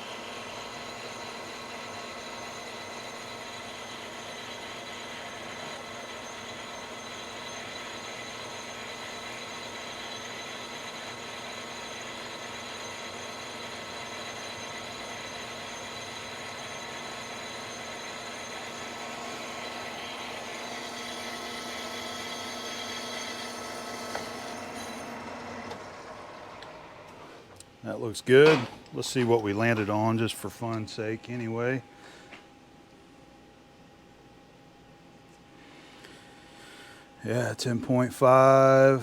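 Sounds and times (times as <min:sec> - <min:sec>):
lathe droning and whining: 0:00.0 - 0:32.4, 0:37.1 - 0:39.0.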